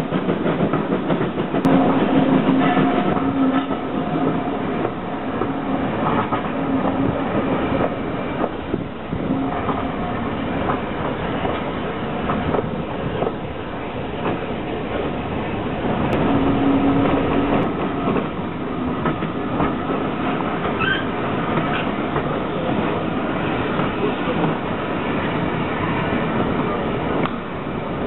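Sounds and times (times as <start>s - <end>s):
train wheels clattering over rails: 0.0s - 15.1s, 15.8s - 24.8s.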